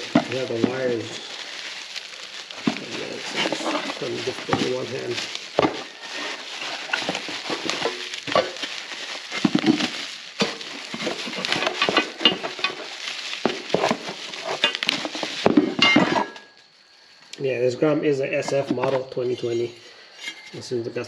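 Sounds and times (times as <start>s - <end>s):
crinkly rustle of handling: 0.0s - 17.3s.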